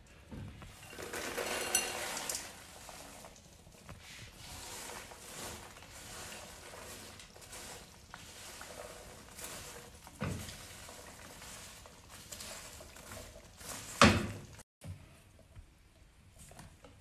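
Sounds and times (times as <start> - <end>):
popcorn rustling in pan: 0.0 - 14.7
spatula stirring: 0.7 - 14.6.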